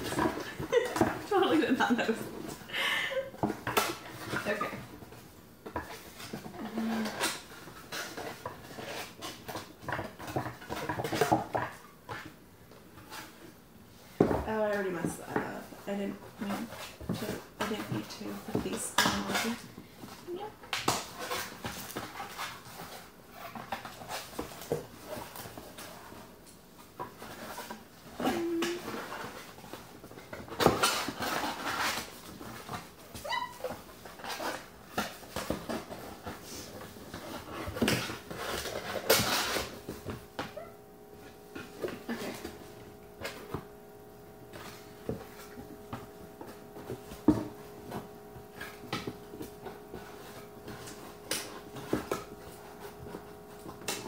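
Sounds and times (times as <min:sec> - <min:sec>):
cardboard rustling and scraping: 0:03.5 - 0:54.0.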